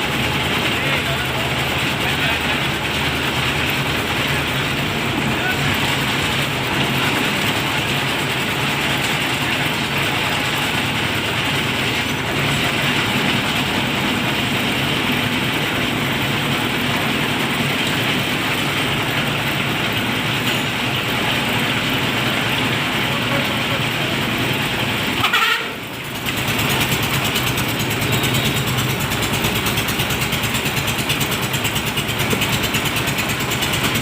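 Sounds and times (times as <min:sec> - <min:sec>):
concrete mixer running: 0:00.0 - 0:34.0.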